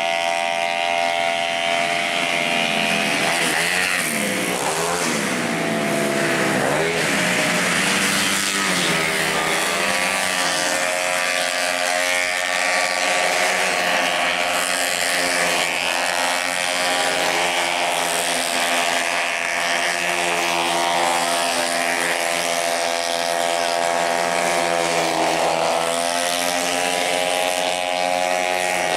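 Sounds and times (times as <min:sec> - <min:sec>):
scooter engines revving: 0:00.0 - 0:28.9.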